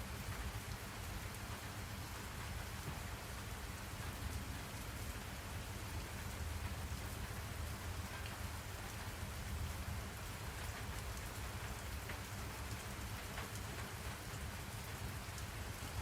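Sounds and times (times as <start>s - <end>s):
rain falling on a surface: 0.0s - 16.0s.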